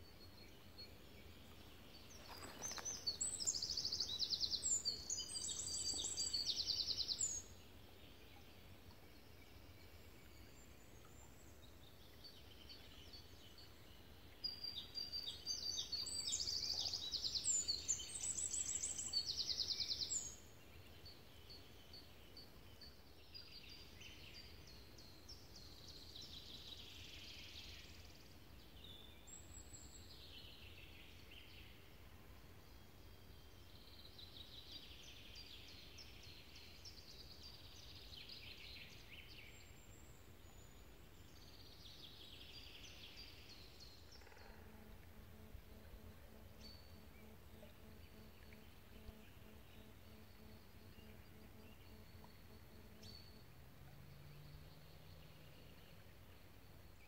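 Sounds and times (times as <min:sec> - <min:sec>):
songbird trilling song: 0:00.0 - 0:07.7, 0:09.4 - 0:28.0, 0:33.3 - 0:57.0.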